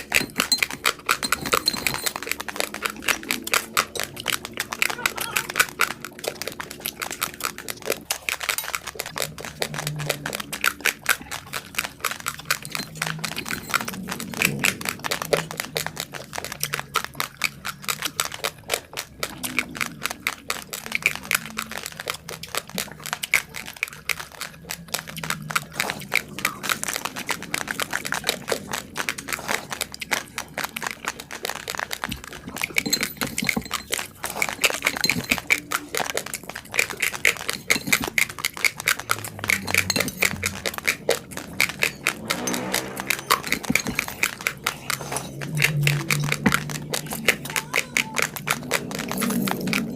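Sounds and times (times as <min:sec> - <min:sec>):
rice grains being chewed: 0:00.0 - 0:49.9.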